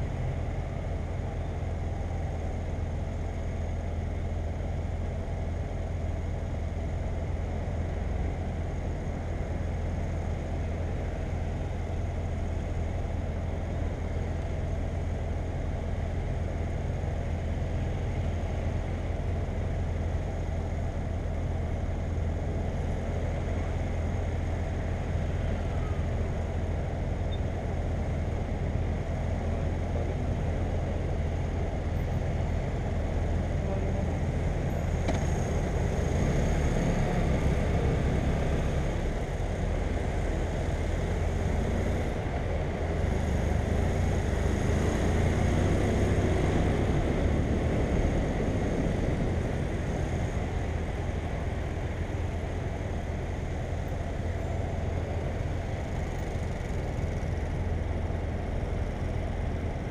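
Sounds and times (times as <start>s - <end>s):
road and wind noise: 0.0s - 59.9s.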